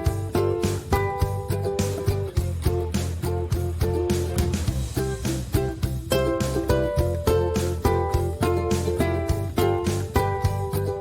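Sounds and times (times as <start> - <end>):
upbeat music with plucked strings: 0.0 - 11.0.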